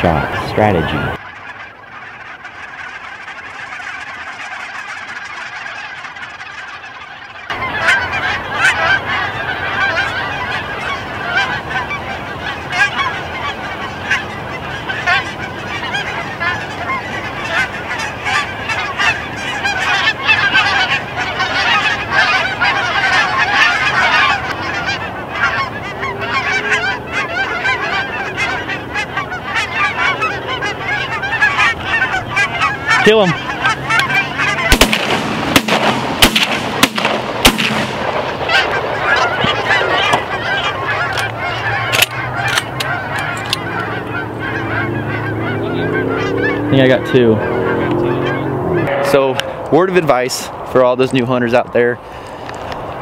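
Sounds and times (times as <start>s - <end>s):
flock of geese honking: 0.0s - 53.0s.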